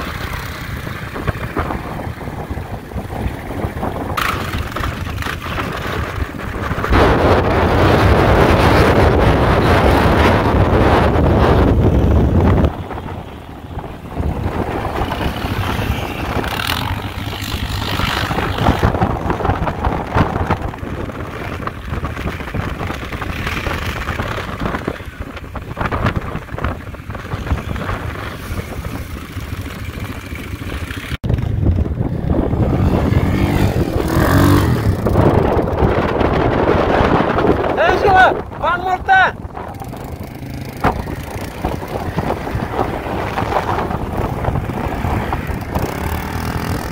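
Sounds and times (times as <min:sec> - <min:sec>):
atv engine running: 0:00.0 - 0:37.8, 0:39.4 - 0:46.9
wind buffeting microphone: 0:00.0 - 0:46.9.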